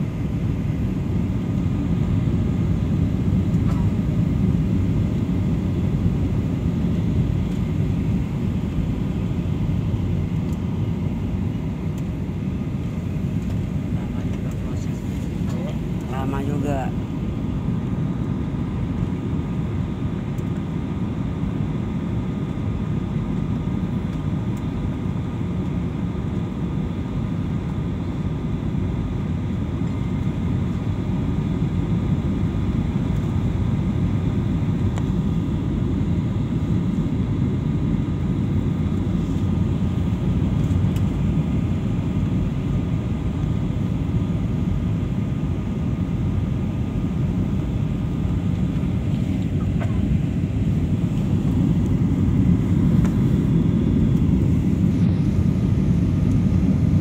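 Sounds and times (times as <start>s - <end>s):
jet engine and airflow rumble: 0.0s - 57.0s.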